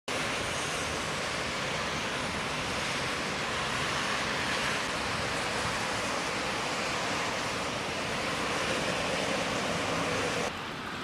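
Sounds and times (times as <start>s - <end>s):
car tyres hissing on wet road: 0.1s - 11.0s
heavy rain: 0.1s - 11.0s.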